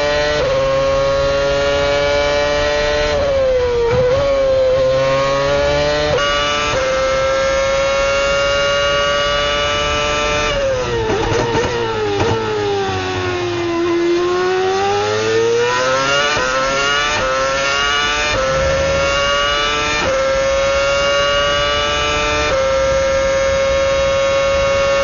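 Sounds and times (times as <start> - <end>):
racing car engine accelerating: 0.0 - 25.0.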